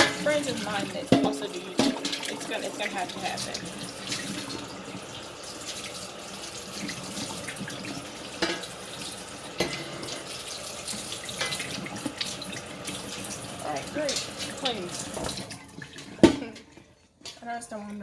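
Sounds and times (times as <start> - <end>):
dishes clinking: 0.0 - 5.1, 6.8 - 17.4
tap water running: 0.0 - 18.0.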